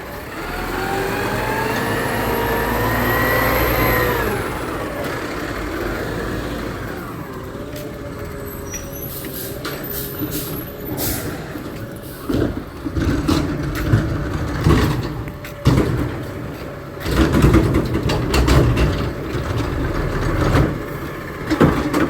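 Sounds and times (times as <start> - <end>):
garbage truck engine revving: 0.0 - 22.0.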